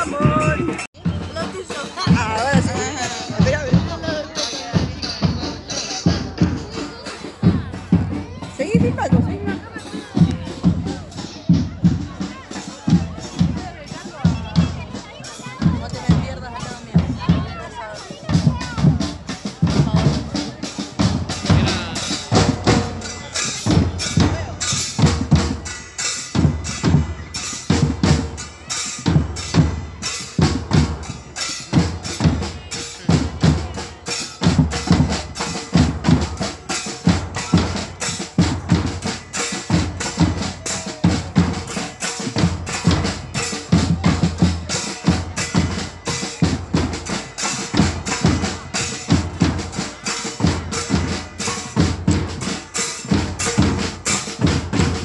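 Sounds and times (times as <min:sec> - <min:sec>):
drums beating fast rhythm: 0:00.0 - 0:55.0.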